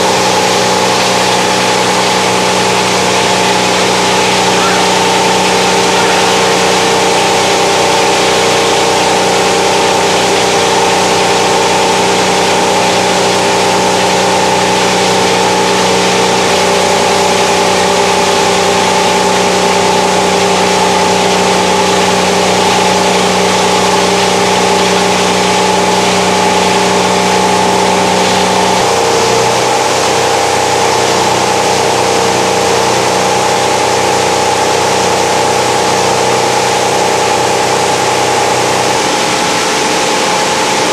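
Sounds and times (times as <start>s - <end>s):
conveyor machinery humming: 0.0s - 40.9s
noisy rush of machinery: 0.0s - 40.9s.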